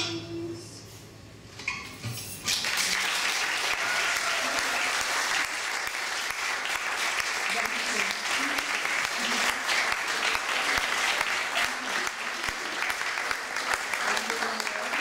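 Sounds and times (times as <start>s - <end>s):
audience applauding: 2.5s - 15.0s.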